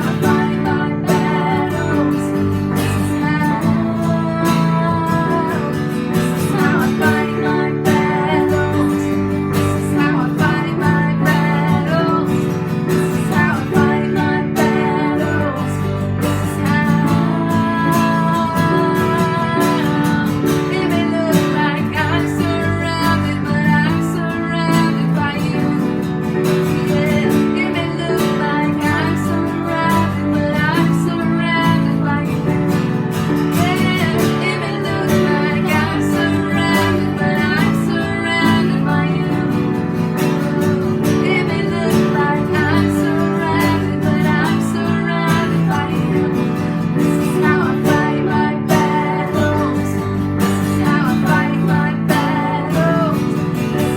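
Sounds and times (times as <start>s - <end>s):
acoustic guitar strumming: 0.0s - 53.9s
person singing: 0.0s - 53.9s.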